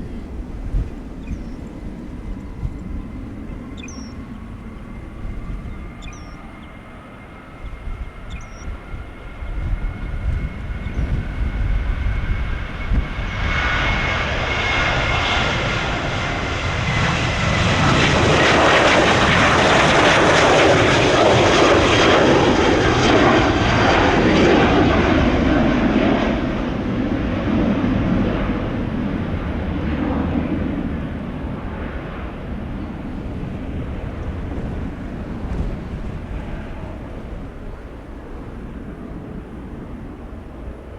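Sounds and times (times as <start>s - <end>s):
jet airliner passing: 0.0s - 40.9s
wind rumble on microphone: 0.0s - 40.9s.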